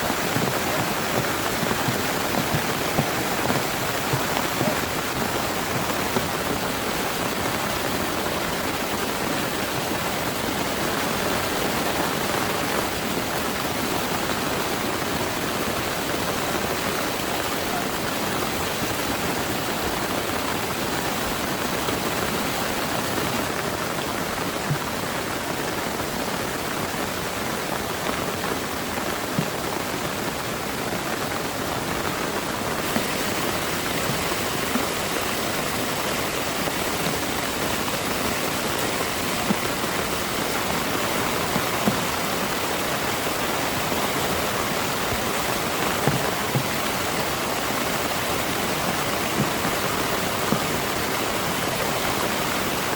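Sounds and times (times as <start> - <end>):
heavy rain pouring: 0.0 - 52.9.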